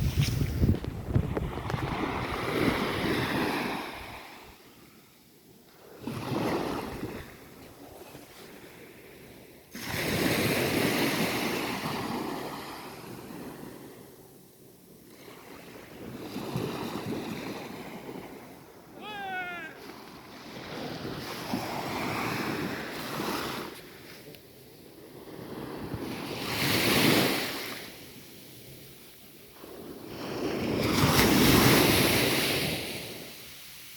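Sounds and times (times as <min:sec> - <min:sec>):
sea waves breaking on shore: 0:00.0 - 0:05.0, 0:05.7 - 0:14.1, 0:15.0 - 0:33.9.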